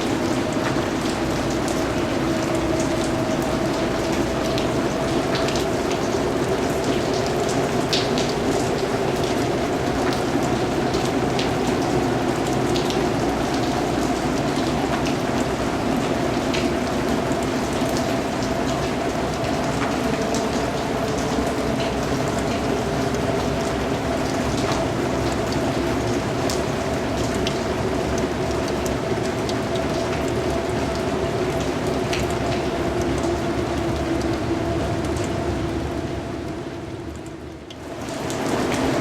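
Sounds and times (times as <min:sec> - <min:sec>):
raindrops ticking: 0:00.0 - 0:39.0
steady rain: 0:00.0 - 0:39.0.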